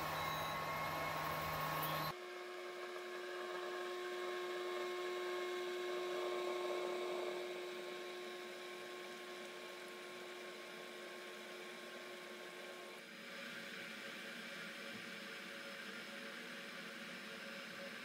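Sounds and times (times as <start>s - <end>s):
cooktop fan humming: 0.0s - 18.0s.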